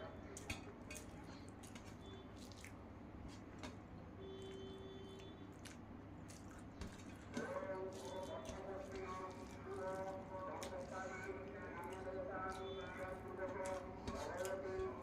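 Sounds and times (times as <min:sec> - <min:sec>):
person chewing food: 0:00.3 - 0:03.7, 0:04.3 - 0:15.0.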